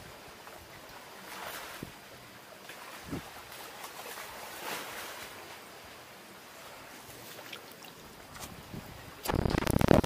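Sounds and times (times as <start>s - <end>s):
sea waves washing on shore: 0.0s - 10.0s.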